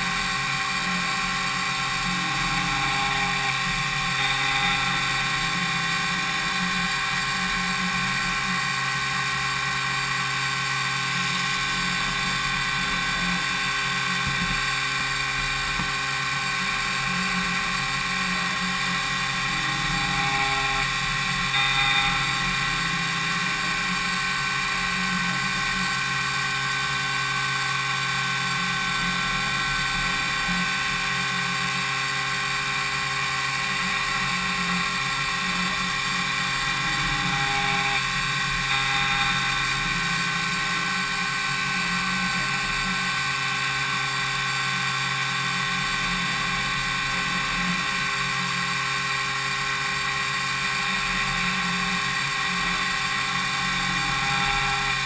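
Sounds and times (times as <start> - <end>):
low machine hum: 0.0 - 55.0
milling machine spindle whine: 0.0 - 55.0.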